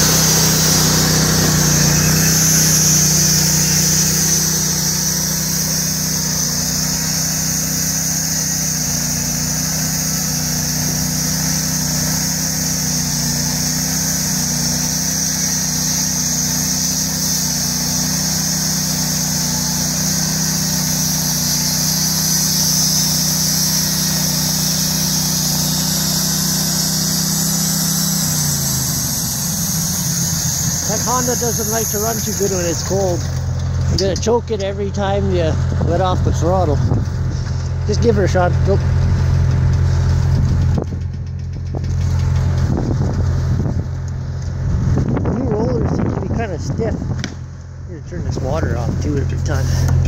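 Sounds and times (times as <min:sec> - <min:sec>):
saw blade cutting log: 0:00.0 - 0:43.8, 0:48.8 - 0:50.0
petrol engine running full throttle: 0:00.0 - 0:50.0.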